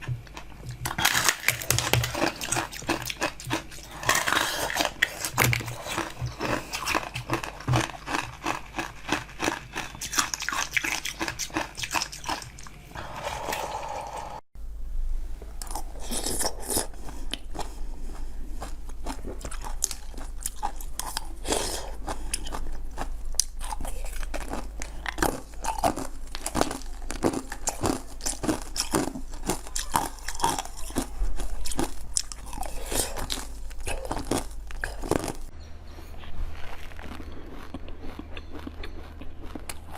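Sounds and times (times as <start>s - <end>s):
person chewing crunchy food: 0.0s - 13.9s, 15.6s - 39.9s.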